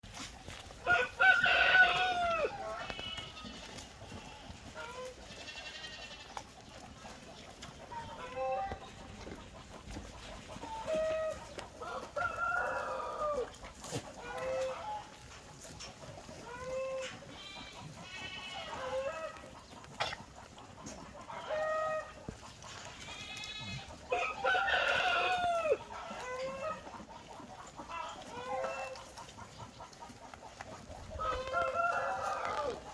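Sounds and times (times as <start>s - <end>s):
farm animals calling: 0.0s - 32.9s.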